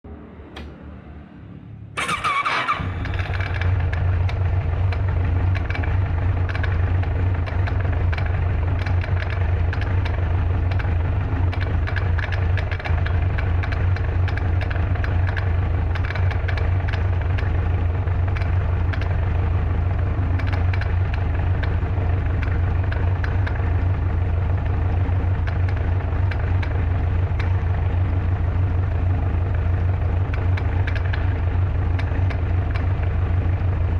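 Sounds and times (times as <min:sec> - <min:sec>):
engine idling with clattering rattle: 0:02.0 - 0:33.9
motorcycle engine starting: 0:02.0 - 0:33.9.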